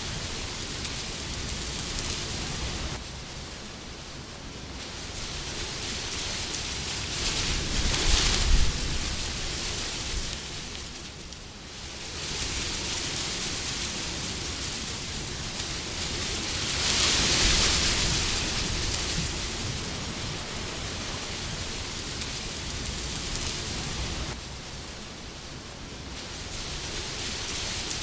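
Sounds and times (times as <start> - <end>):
rushing wind: 0.0 - 28.0.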